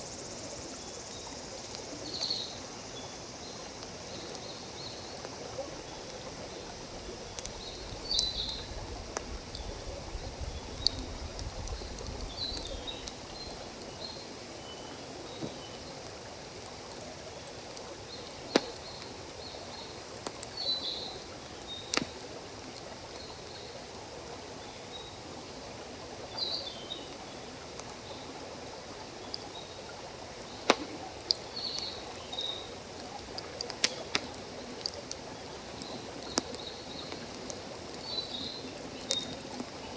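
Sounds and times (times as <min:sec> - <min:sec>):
campfire crackling and popping: 0:03.6 - 0:24.4, 0:27.1 - 0:39.9.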